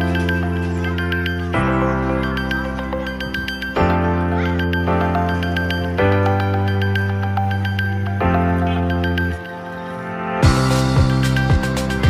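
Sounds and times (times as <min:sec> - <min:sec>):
calm music with bell-like notes: 0:00.0 - 0:12.0.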